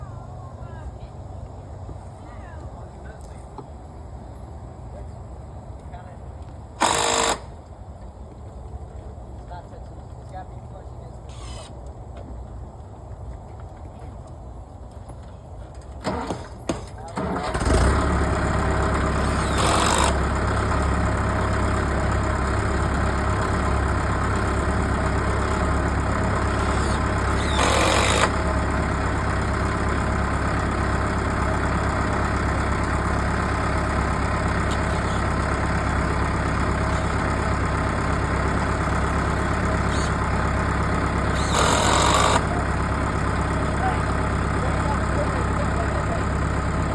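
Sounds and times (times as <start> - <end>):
tractor diesel engine idling: 0.0 - 12.2, 15.0 - 46.9.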